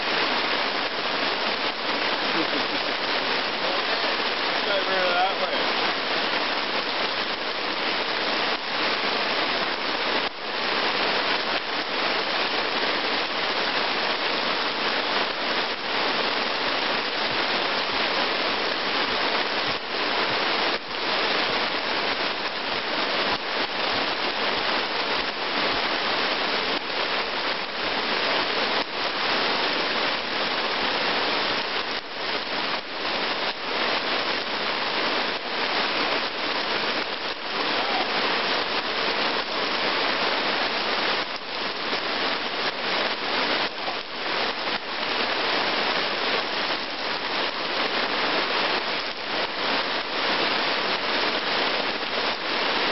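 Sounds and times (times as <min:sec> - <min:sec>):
heavy rain on wet ground: 0:00.0 - 0:52.9.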